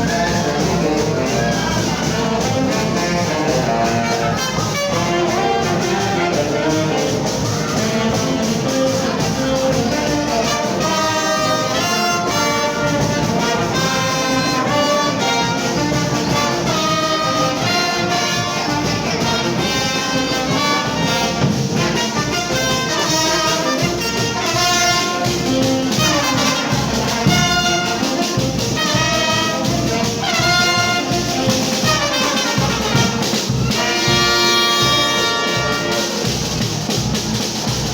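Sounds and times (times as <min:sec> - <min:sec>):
trumpets and trombones: 0:00.0 - 0:37.9.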